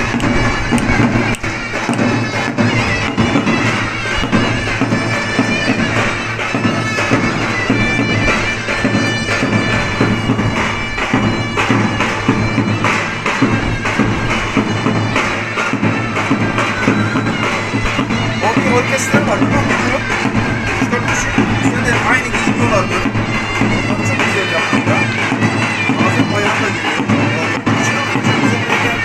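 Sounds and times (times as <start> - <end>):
shrill reedy wind instrument: 0.0 - 29.0
steady drum beat: 0.0 - 29.0.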